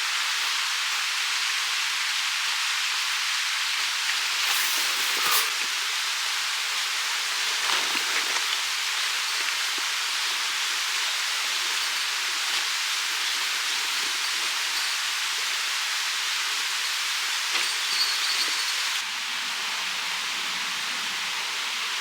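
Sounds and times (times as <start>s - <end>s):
steady hissing noise: 0.0s - 22.0s.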